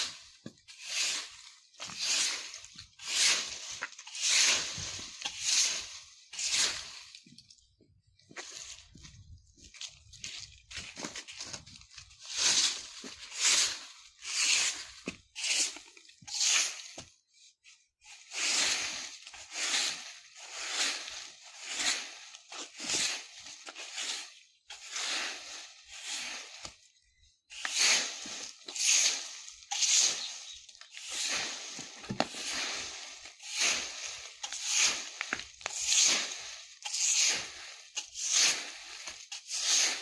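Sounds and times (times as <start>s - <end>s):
broom sweeping dry leaves: 0.0s - 7.4s, 8.3s - 40.0s.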